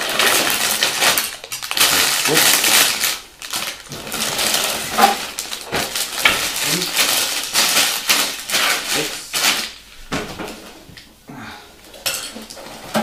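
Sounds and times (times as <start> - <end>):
plastic bags crinkling: 0.0 - 11.1, 11.8 - 13.0.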